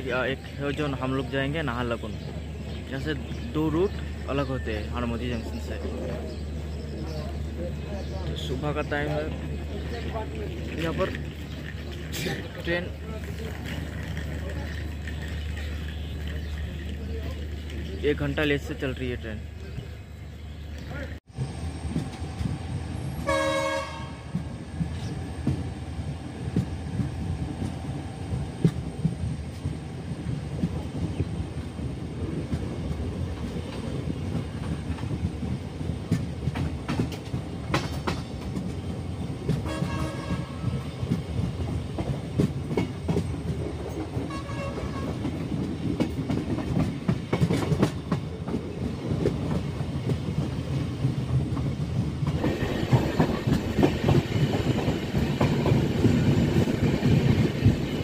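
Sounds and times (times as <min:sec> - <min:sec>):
train wheels rumbling: 0:00.0 - 0:58.0
clickety-clack over rail joints: 0:00.5 - 0:19.8, 0:21.8 - 0:58.0.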